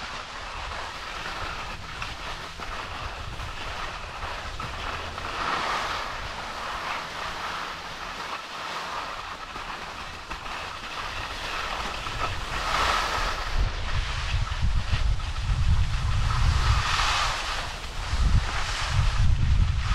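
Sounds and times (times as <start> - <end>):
wind buffeting microphone: 0.0 - 8.0, 11.0 - 19.9
chairlift rumble and clatter: 0.0 - 19.9.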